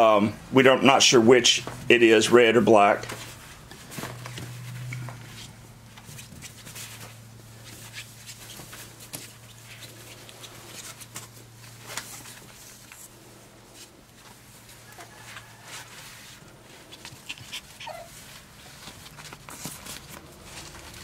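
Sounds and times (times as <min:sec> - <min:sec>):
paws scratching on fabric: 0:03.2 - 0:21.0.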